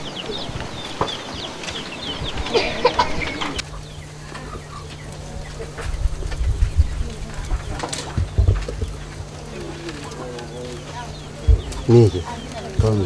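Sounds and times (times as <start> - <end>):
chickens clucking and peeping: 0.0 - 13.0
steady low hum: 0.0 - 13.0.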